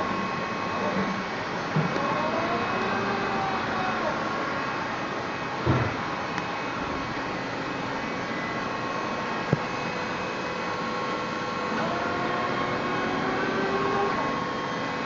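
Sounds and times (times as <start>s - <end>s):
cnc machine hiss and whine: 0.0s - 15.0s.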